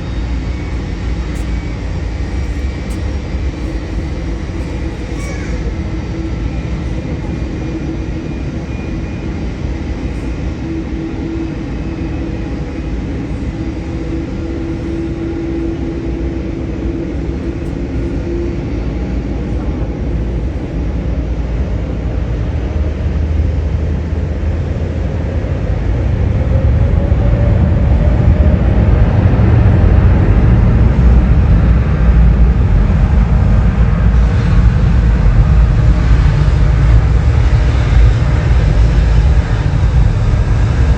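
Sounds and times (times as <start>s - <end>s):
jet engines rumbling: 0.0s - 40.9s.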